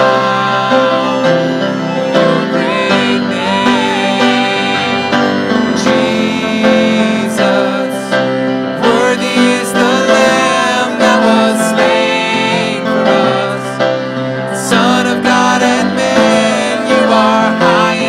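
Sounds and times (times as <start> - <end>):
grand piano: 0.0 - 18.0
person singing: 0.0 - 18.0
violin: 0.0 - 18.0.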